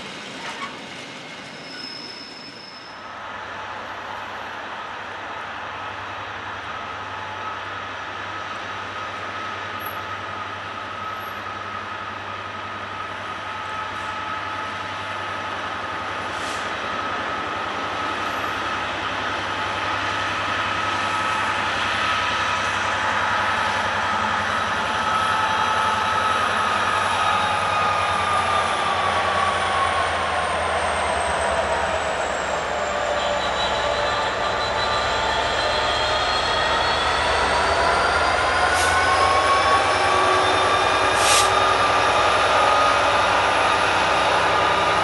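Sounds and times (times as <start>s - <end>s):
diesel locomotive engine: 0.0s - 45.0s
train rumbling: 0.0s - 45.0s.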